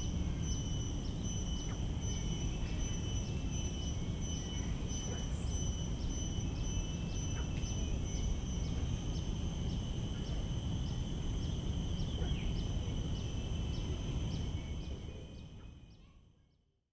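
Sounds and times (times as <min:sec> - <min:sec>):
insects trilling: 0:00.0 - 0:15.4.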